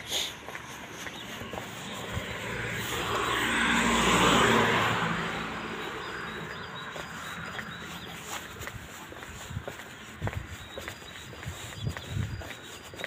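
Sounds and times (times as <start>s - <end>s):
car passing: 0.3s - 11.7s.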